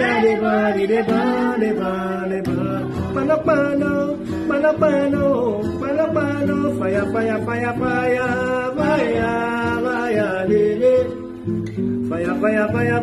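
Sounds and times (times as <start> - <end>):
man and children singing: 0.0 - 11.3
acoustic guitar strumming: 0.0 - 13.0.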